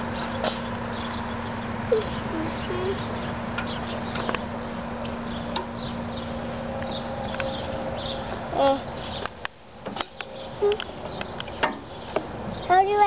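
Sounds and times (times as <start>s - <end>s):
birds chirping: 0.0s - 13.0s
steady outdoor hum: 0.0s - 13.0s.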